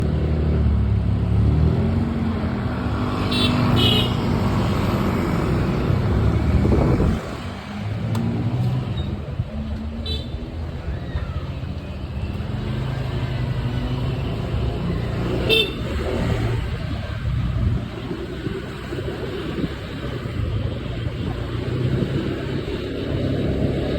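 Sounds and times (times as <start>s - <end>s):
road traffic noise: 0.0s - 23.9s.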